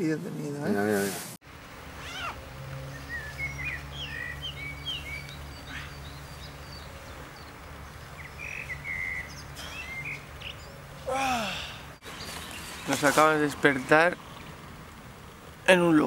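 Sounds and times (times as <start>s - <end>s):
small birds chirping: 1.6s - 16.0s.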